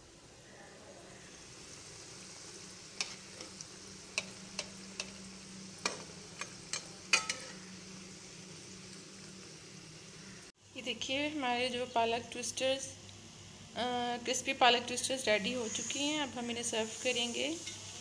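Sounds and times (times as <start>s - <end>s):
dough sizzling in hot oil: 0.0s - 18.0s.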